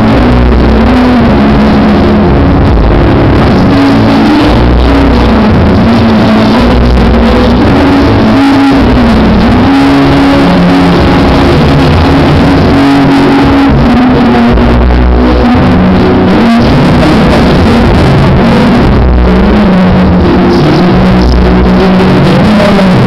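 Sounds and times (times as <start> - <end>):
loud distorted music over speakers: 0.0 - 23.0.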